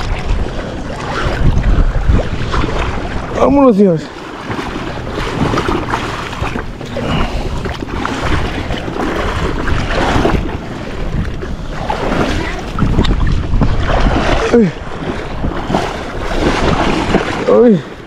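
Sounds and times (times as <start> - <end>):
ocean surf rushing: 0.0 - 18.0
wind buffeting microphone: 0.0 - 18.0.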